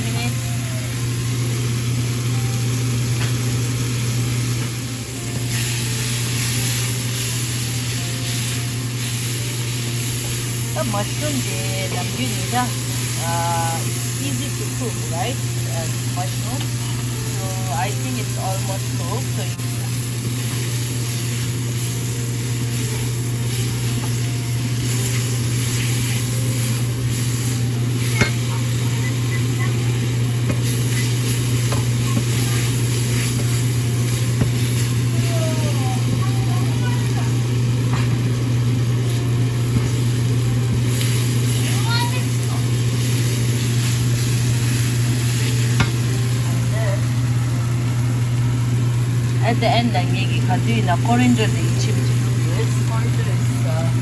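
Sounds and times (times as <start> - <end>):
mushrooms sizzling in a pan: 0.0 - 54.0
steady low hum: 0.0 - 54.0.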